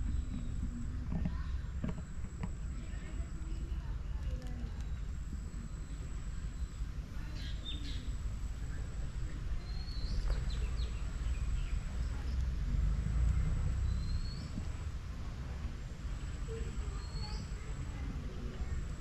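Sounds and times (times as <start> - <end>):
birds chirping: 0.0 - 15.0, 16.0 - 19.0
low outdoor rumble: 0.0 - 19.0.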